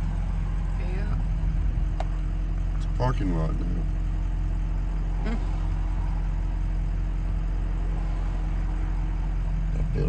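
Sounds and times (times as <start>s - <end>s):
car engine hum: 0.0s - 10.0s
road noise: 0.0s - 10.0s.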